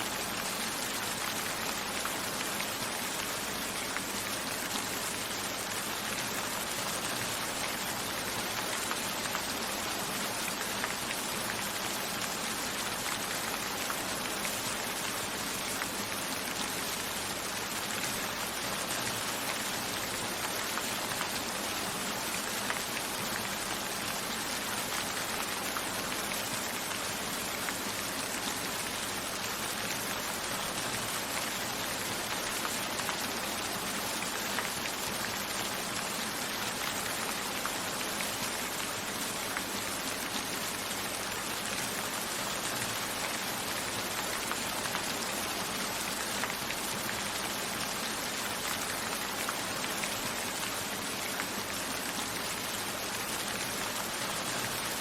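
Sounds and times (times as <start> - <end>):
rain pattering on a window: 0.0 - 55.0.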